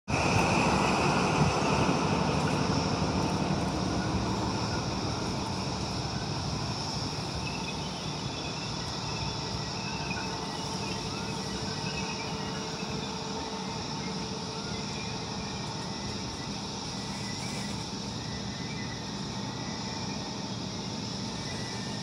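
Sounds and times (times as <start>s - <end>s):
faint steady train whine: 0.1s - 22.0s
passenger train running on rails: 0.1s - 22.0s.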